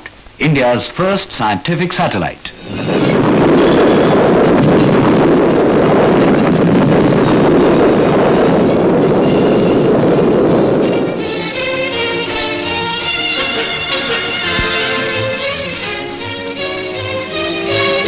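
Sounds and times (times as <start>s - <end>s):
rocket engines roaring: 0.0s - 18.0s.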